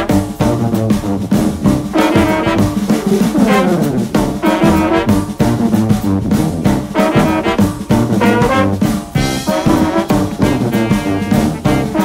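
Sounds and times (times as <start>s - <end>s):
brass music with quick notes: 0.0s - 12.0s.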